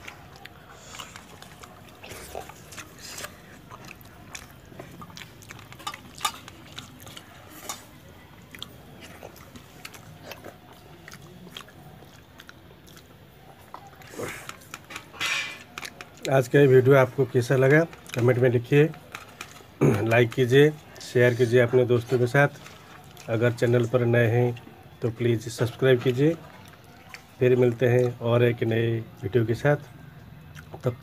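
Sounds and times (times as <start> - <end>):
chewing: 0.0 - 31.0.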